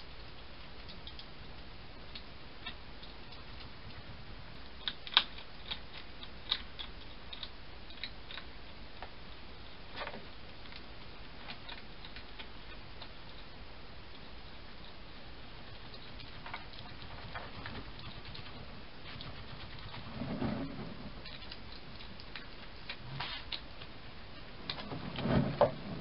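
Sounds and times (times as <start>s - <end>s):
hedgehog clicks and crunches: 0.2s - 13.5s, 15.7s - 24.0s.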